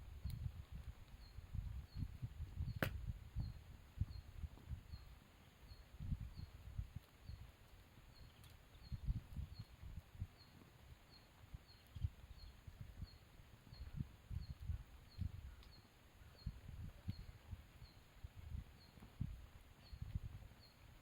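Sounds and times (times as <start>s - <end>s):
campfire rumbling and crackling: 0.0s - 21.0s.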